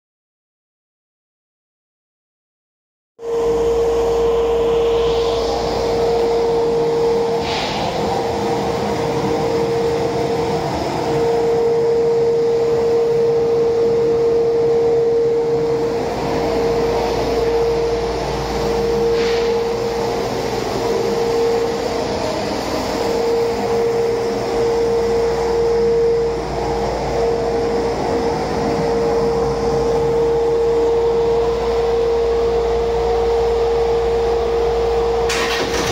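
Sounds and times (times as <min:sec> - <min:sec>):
steady whine: 0:03.2 - 0:35.9
diesel engine idling: 0:03.5 - 0:35.9.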